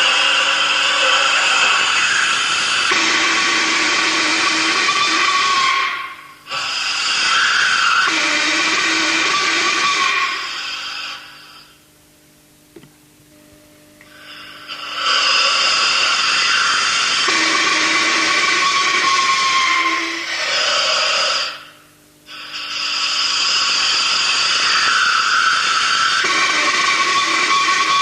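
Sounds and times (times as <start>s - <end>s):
gas siren harsh whistle: 1.3s - 11.8s, 14.1s - 21.8s, 23.4s - 28.0s.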